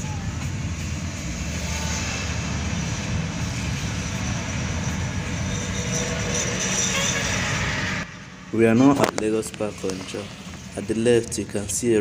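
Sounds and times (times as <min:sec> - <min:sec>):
car engine hum: 0:00.0 - 0:12.0
car road noise: 0:00.0 - 0:12.0.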